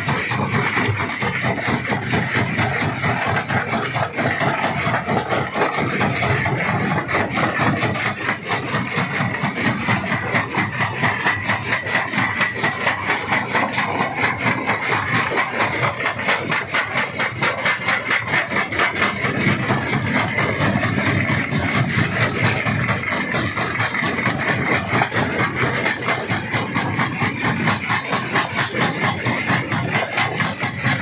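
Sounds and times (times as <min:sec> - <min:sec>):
stone crusher pulsing drone: 0:00.0 - 0:31.0.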